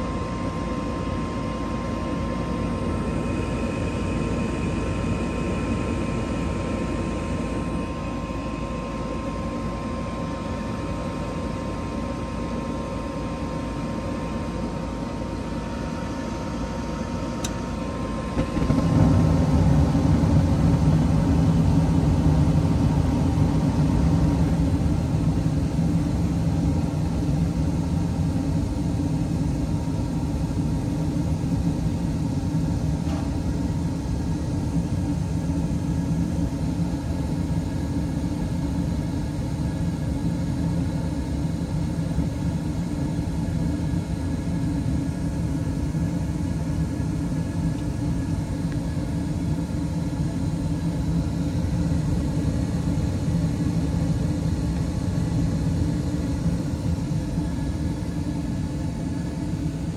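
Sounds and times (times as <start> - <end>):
gas burners rumbling: 0.0 - 59.9.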